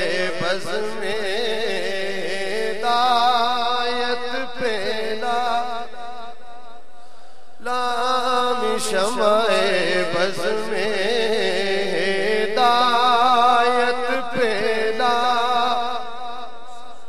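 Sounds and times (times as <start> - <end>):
man chanting: 0.0 - 6.5, 7.6 - 17.0.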